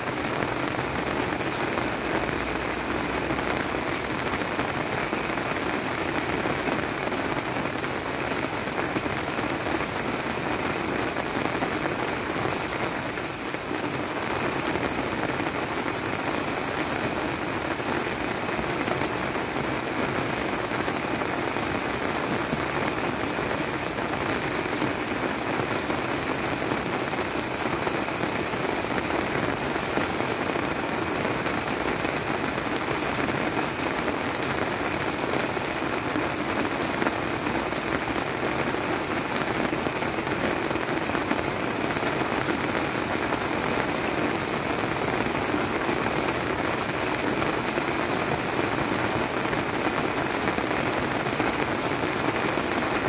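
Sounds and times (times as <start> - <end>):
rain on leafy plants: 0.0 - 53.0.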